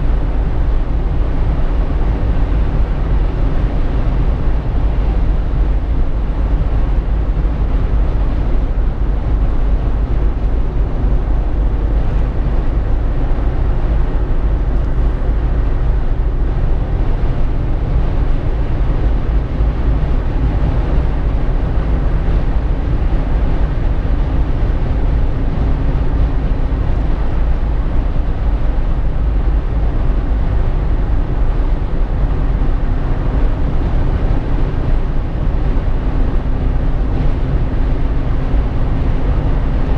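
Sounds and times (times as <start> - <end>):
car cabin driving rumble: 0.0 - 39.9.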